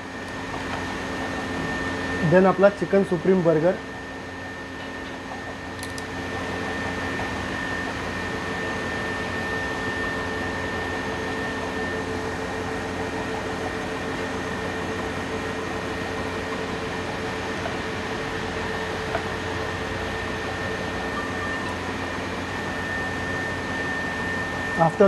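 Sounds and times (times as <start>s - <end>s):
fan machinery humming: 0.0s - 25.0s.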